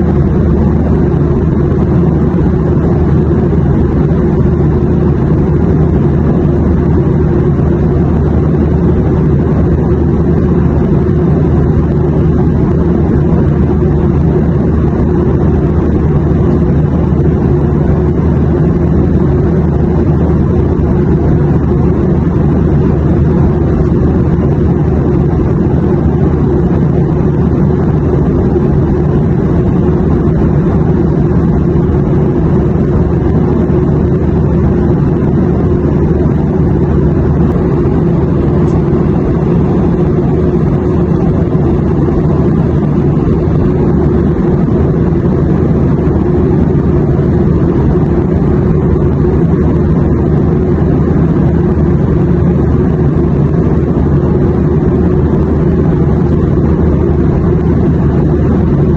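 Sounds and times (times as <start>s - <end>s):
airplane engine drone: 0.0s - 58.9s.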